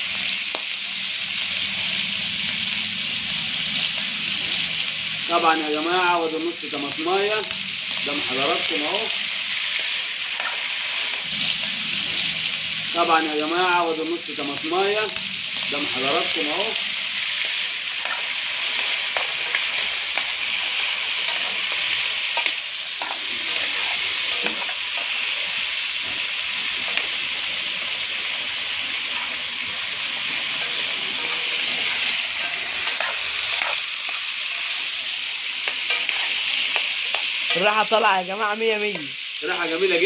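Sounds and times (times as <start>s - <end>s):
meat sizzling in a pan: 0.0s - 40.0s.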